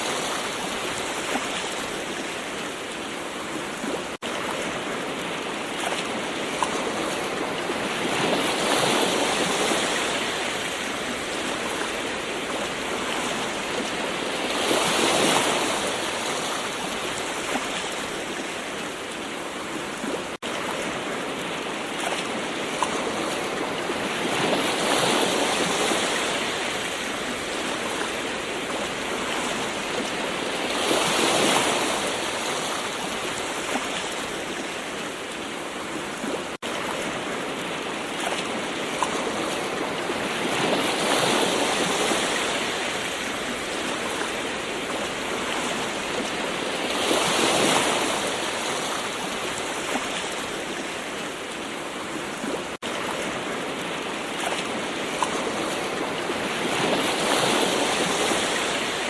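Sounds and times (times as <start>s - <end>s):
ocean waves: 0.0s - 59.0s.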